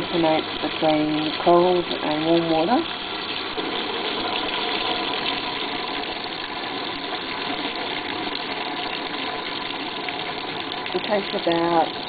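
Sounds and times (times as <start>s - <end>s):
washing machine hum: 0.0s - 12.0s
water pouring into tub: 0.0s - 12.0s.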